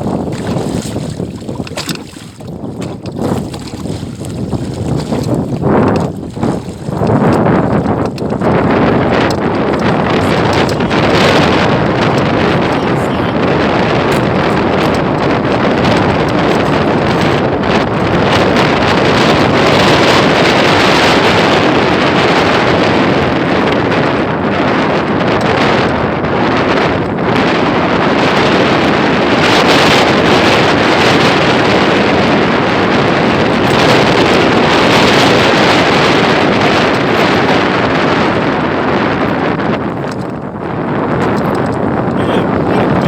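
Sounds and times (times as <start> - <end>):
strong wind on microphone: 0.0 - 43.0.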